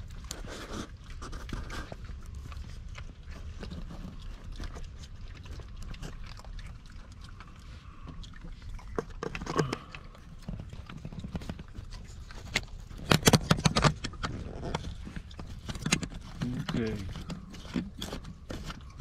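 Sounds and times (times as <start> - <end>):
raccoons crunching nuts: 0.0 - 19.0.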